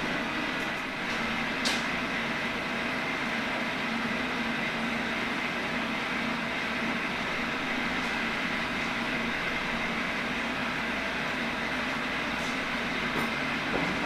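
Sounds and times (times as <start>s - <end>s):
machine tool humming and whining: 0.0s - 14.0s.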